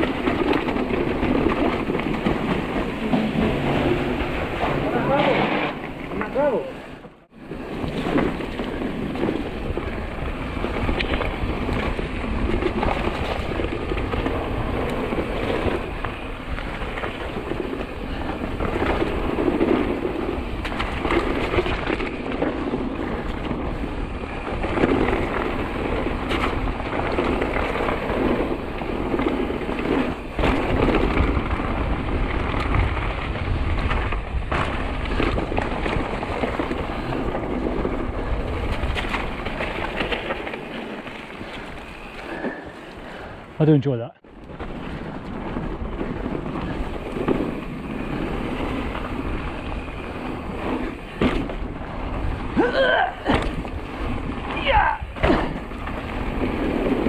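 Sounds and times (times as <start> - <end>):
bike rattling and knocking: 0.0 - 43.3, 44.2 - 57.0
wind rumble on microphone: 0.0 - 43.6, 44.2 - 57.0
bike tyres on gravel: 0.0 - 57.0.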